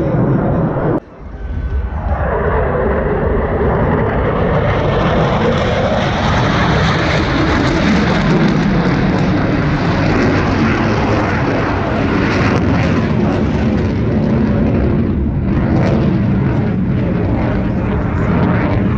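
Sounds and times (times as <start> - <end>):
jet engine roar: 0.0 - 18.9.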